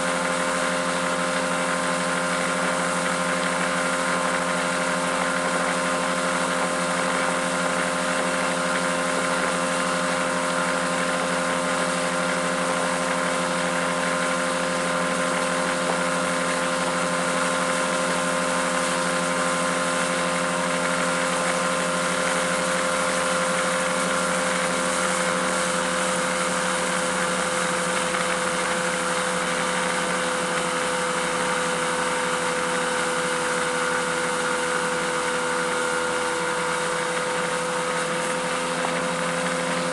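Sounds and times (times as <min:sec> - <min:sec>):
outboard motor whining: 0:00.0 - 0:39.9.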